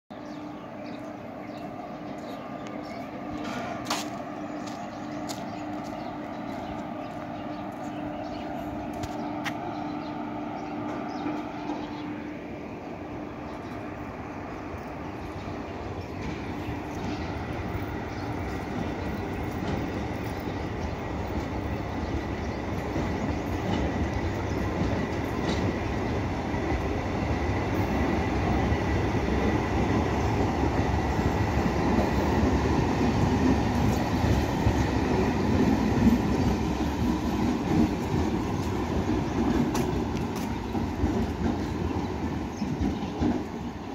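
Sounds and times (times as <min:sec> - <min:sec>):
train wheels on rail: 0:00.2 - 0:43.9.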